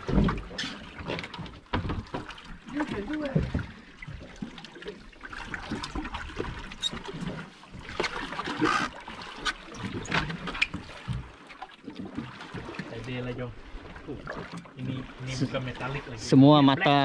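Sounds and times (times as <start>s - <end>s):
water splashing against boat hull: 0.0s - 17.0s.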